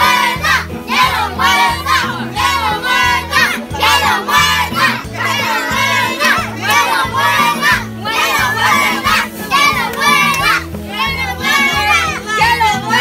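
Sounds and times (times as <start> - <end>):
children shouting and cheering: 0.0 - 13.0
music with bass line: 0.0 - 13.0.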